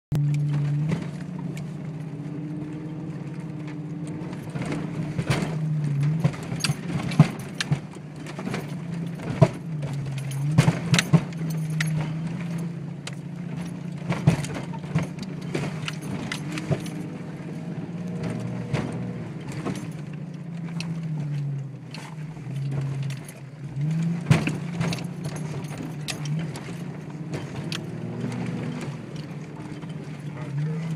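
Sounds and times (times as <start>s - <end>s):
drivetrain clunks: 0.1s - 30.9s
engine droning: 0.1s - 30.9s.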